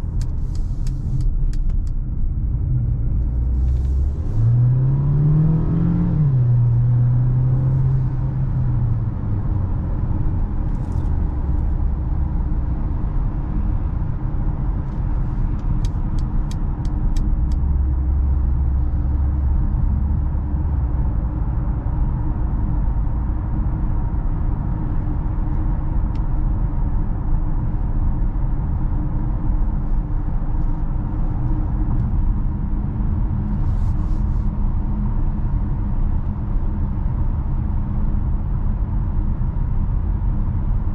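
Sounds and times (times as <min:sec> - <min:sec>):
car engine accelerating and cruising: 0:00.0 - 0:40.9
road noise: 0:00.0 - 0:40.9.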